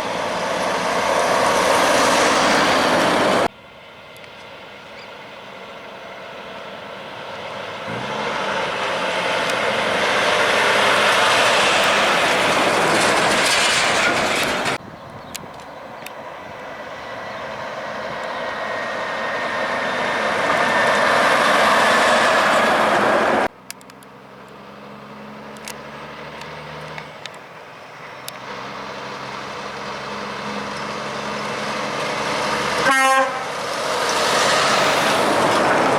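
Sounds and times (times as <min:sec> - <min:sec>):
heavy trucks driving past: 0:00.0 - 0:14.8, 0:15.8 - 0:35.9
truck engine drone: 0:00.0 - 0:14.8, 0:15.4 - 0:35.9.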